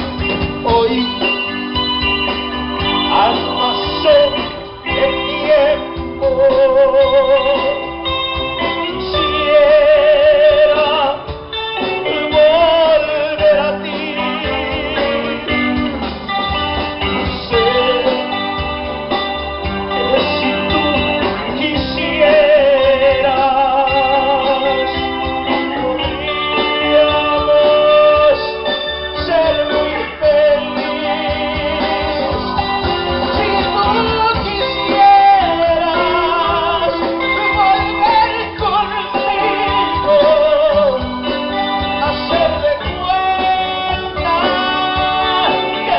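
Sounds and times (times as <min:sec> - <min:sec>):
bass guitar: 0:00.0 - 0:45.9
drums: 0:00.0 - 0:45.9
guitar: 0:00.0 - 0:45.9
organ-like keyboard melody: 0:00.0 - 0:45.9.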